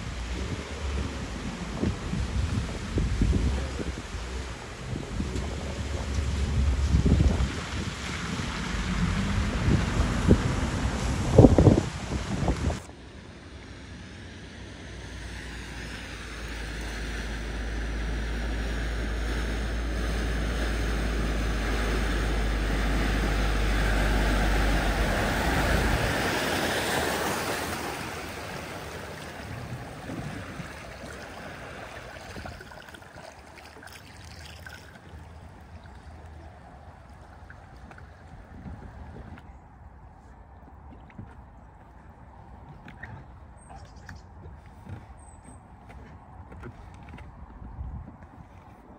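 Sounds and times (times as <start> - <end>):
water surging and splashing: 0.0 - 39.6.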